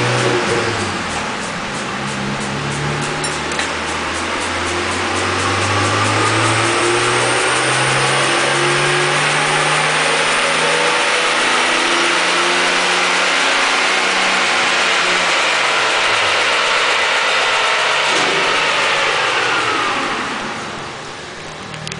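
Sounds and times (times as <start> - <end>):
car engine revving high: 0.0 - 21.6
dyno rollers spinning down whine: 0.0 - 21.9.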